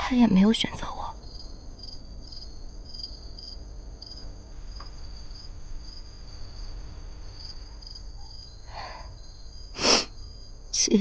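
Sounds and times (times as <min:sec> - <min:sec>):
crickets chirping: 0:00.0 - 0:11.0
low background rumble: 0:00.0 - 0:11.0.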